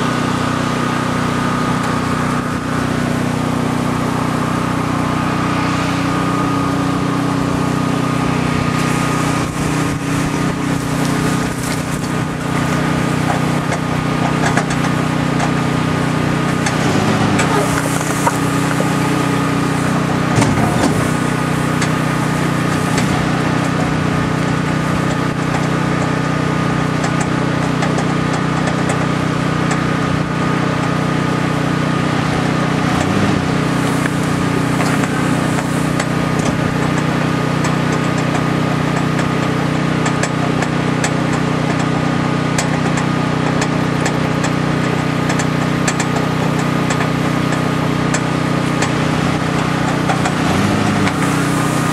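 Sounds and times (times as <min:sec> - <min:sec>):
truck engine idling: 0:00.0 - 0:51.9
hot metal crackling in water: 0:06.1 - 0:51.9.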